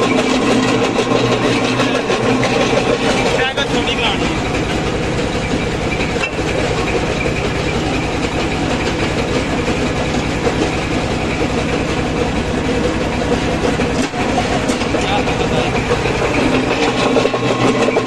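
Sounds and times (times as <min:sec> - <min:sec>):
stone crusher rattling: 0:00.0 - 0:18.0.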